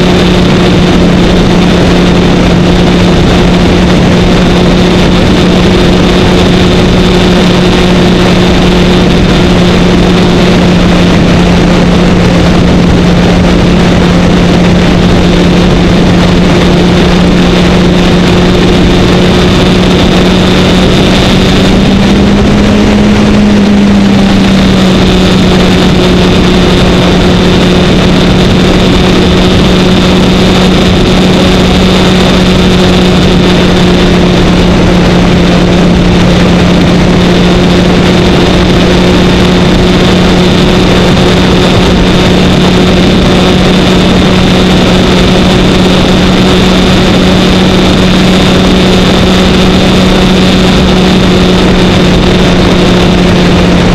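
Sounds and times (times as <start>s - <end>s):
motorcycle engine cruising: 0.0s - 53.9s
wind rushing on microphone: 0.0s - 53.9s.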